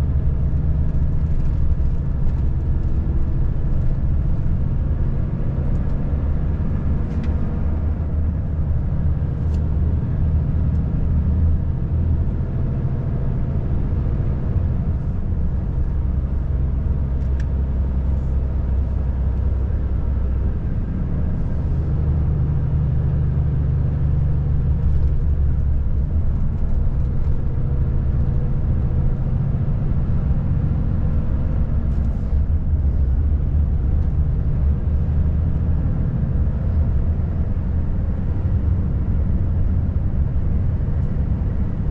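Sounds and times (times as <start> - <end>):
diesel truck engine drone: 0.0 - 41.9.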